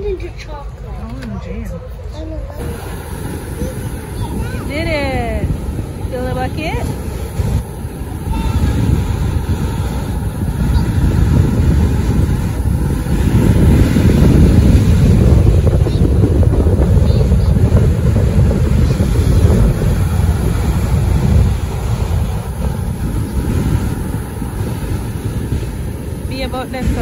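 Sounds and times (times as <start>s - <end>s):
wind buffeting microphone: 0.0s - 27.0s
ocean surf breaking: 2.0s - 27.0s.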